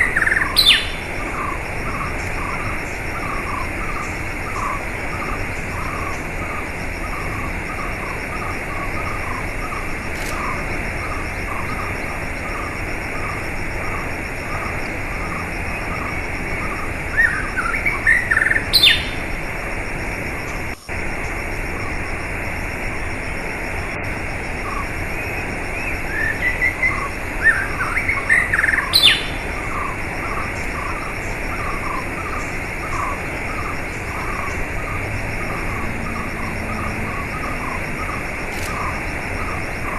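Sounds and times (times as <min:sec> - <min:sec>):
birds chirping: 0:00.0 - 0:22.0, 0:23.8 - 0:39.9
sweeping bird calls: 0:00.0 - 0:22.0, 0:24.6 - 0:39.9.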